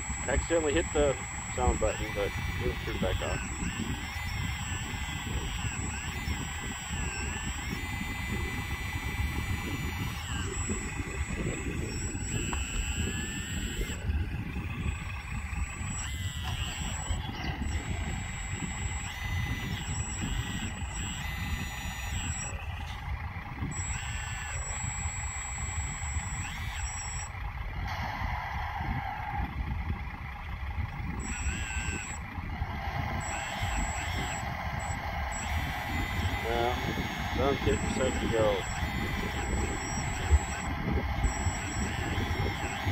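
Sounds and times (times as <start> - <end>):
hydraulic pump whining: 0.0 - 42.9
steady low rumble: 0.0 - 42.9.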